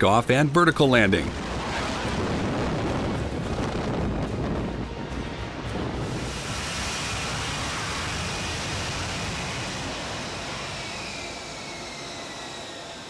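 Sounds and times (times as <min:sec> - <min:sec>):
rushing jet engine noise: 0:00.0 - 0:13.0
thin engine whine: 0:01.2 - 0:13.0.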